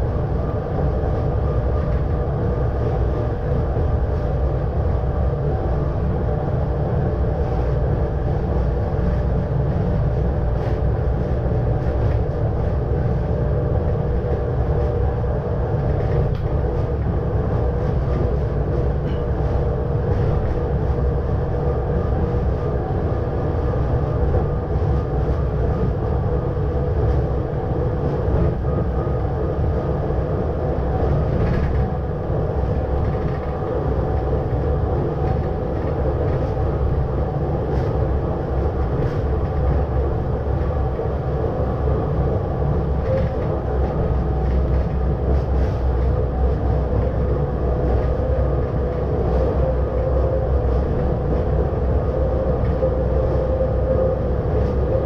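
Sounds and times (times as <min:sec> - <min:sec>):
electric train running: 0:00.0 - 0:55.0.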